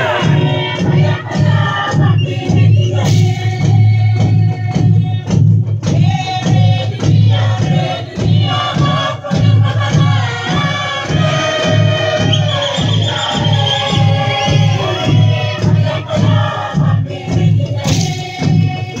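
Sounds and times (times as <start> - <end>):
deep drumbeat: 0.0 - 19.0
group singing and chanting: 0.0 - 19.0.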